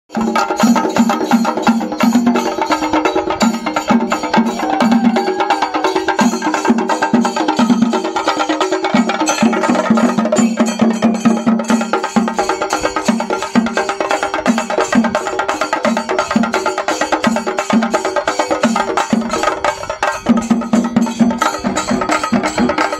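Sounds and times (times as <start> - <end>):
drums beaten fast with sticks: 0.1 - 22.9.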